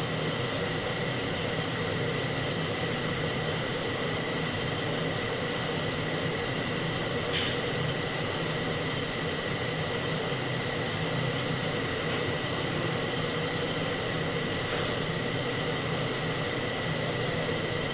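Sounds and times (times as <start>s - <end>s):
welding arc hissing and humming: 0.0s - 17.9s.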